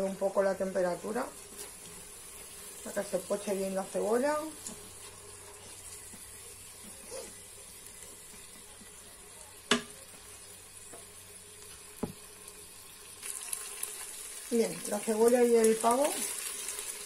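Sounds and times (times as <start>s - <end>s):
onion and meat sizzling: 0.0s - 17.0s.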